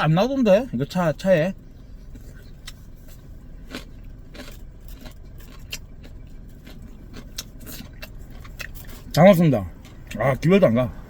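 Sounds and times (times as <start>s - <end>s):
car cabin hum: 0.0s - 11.0s.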